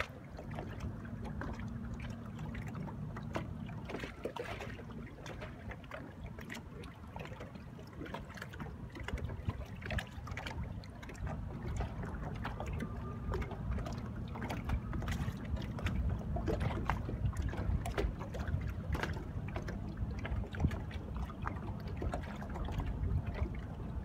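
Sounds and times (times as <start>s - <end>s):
water lapping against boat hull: 0.0s - 24.0s
wind rumbling on microphone: 0.0s - 24.0s.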